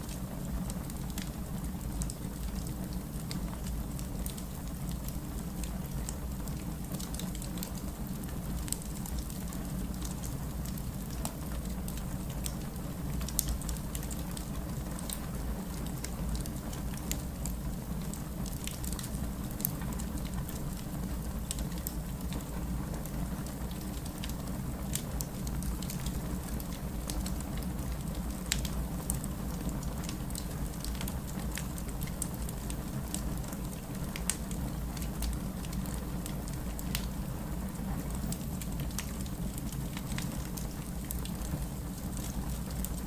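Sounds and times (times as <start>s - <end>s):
wood fire crackling in fireplace: 0.0s - 43.0s.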